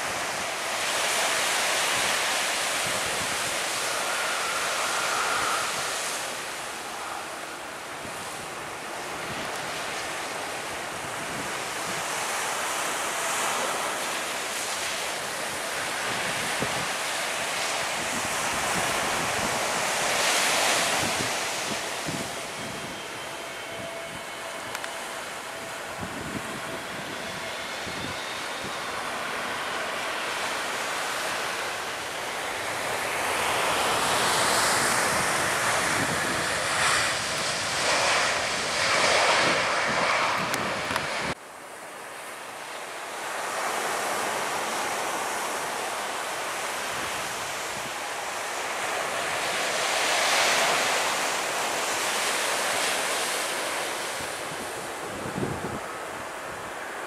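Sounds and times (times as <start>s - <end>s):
wind on microphone: 0.0s - 41.4s, 46.6s - 57.0s
jet airliner engine noise: 0.0s - 57.0s.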